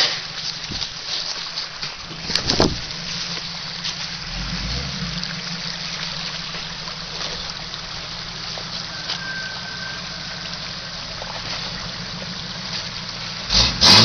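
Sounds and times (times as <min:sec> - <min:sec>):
creek trickling over rocks: 0:00.0 - 0:14.0
car engine running low: 0:01.6 - 0:14.0.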